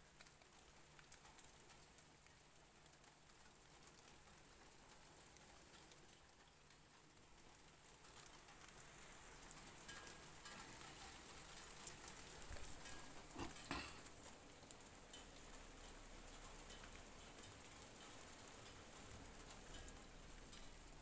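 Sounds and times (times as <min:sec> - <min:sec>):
faint rain pattering: 0:00.0 - 0:21.0.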